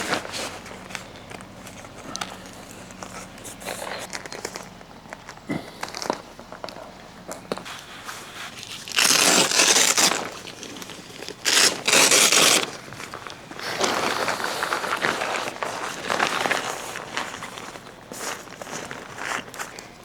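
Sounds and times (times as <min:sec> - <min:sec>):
plastic crinkling and rustling: 0:00.0 - 0:20.0.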